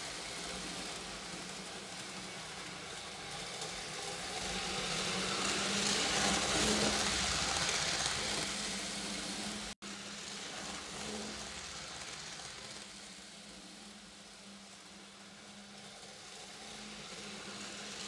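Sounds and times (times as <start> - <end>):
model train rolling on metal track: 0.0 - 18.0.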